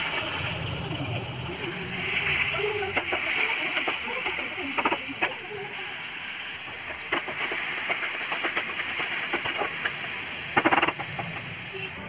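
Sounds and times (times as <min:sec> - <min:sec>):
tomatoes sizzling in hot oil: 0:00.0 - 0:12.0.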